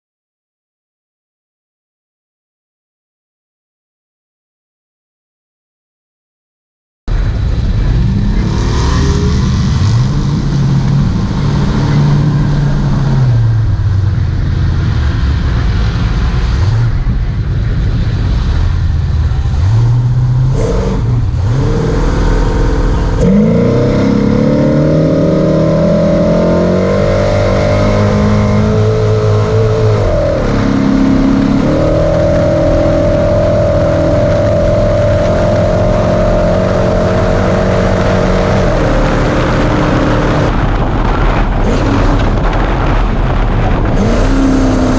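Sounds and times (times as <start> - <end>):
rough road noise: 7.1 - 44.9
truck engine revving: 7.1 - 44.9
wind noise: 7.1 - 44.9.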